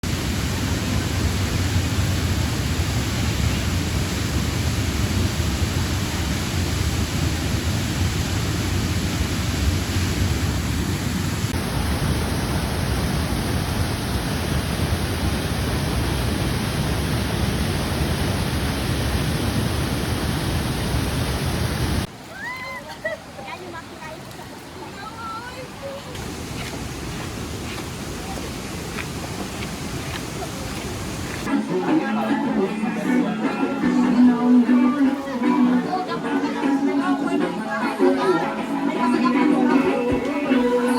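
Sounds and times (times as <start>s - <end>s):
loud rushing water: 0.0s - 33.6s.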